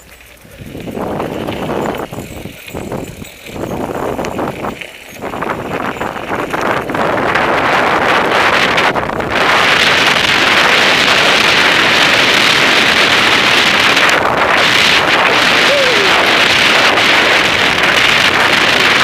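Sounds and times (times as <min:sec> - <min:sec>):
bike clicks and rattles: 0:00.0 - 0:19.0
bike tyres grinding over gravel: 0:00.0 - 0:19.0
wind on microphone: 0:00.4 - 0:19.0.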